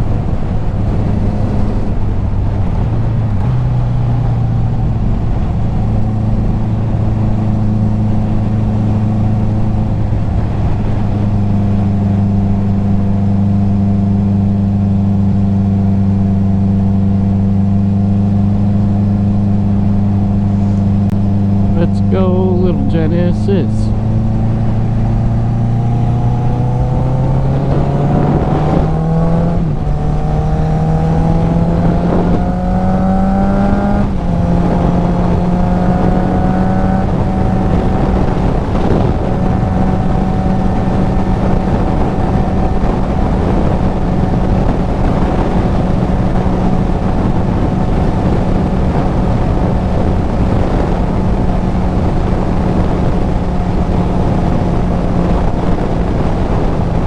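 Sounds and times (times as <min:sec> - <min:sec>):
motorcycle engine accelerating: 0:00.0 - 0:57.0
wind rushing across microphone: 0:00.0 - 0:57.0.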